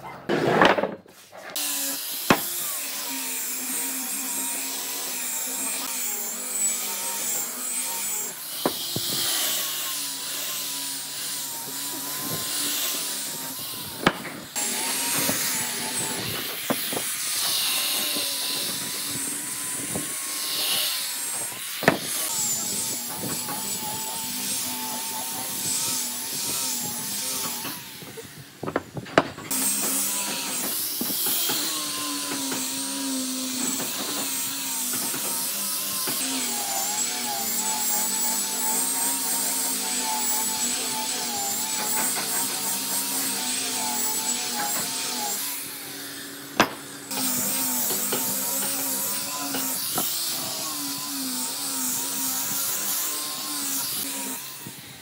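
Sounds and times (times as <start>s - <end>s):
angle grinder sanding wood: 0.4s - 55.0s.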